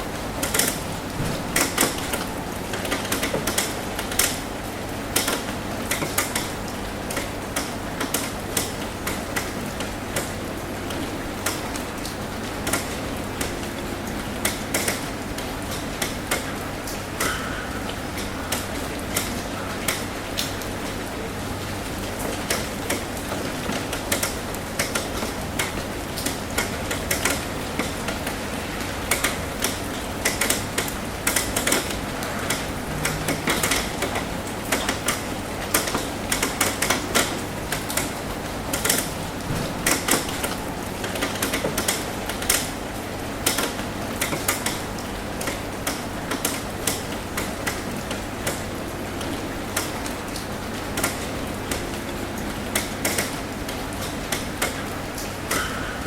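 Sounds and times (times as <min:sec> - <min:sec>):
rain hiss: 0:00.0 - 0:56.0
raindrops tapping on metal roof: 0:00.0 - 0:56.0.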